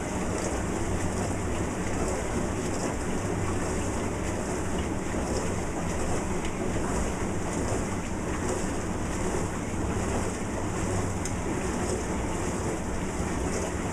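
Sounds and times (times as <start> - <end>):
dishwasher water rushing: 0.0 - 13.9
low motor hum: 0.0 - 13.9.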